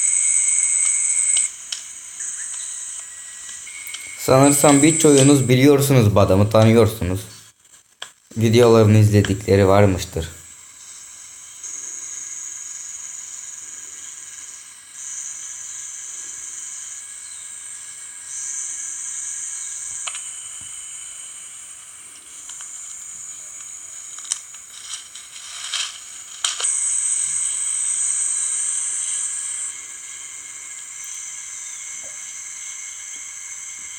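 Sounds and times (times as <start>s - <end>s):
steady high hiss: 0.0s - 33.9s.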